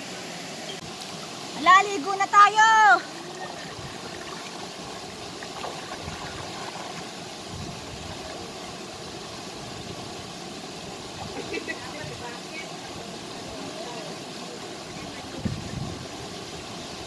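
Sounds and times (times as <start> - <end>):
waterfall rushing into pool: 0.0 - 17.0.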